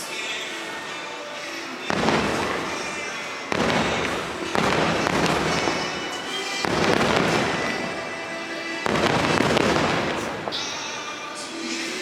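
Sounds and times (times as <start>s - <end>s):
fireworks bursting and crackling: 0.0s - 12.0s
music soundtrack: 0.0s - 12.0s.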